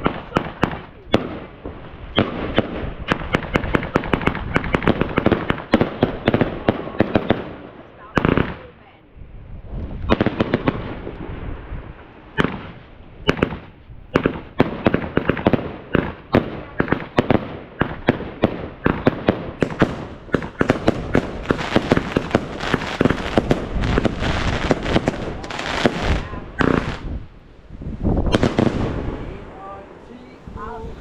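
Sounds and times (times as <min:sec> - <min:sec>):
firework bangs and pops: 0:00.0 - 0:08.8, 0:09.6 - 0:29.4
firework crackling: 0:00.0 - 0:31.0.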